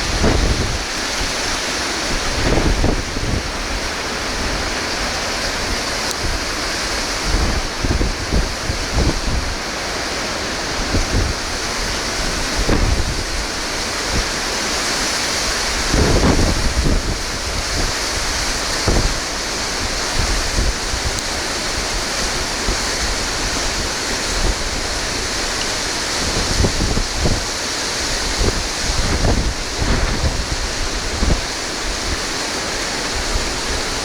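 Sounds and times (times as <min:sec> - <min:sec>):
surf breaking: 0:00.0 - 0:34.0
wind buffeting microphone: 0:00.0 - 0:34.0.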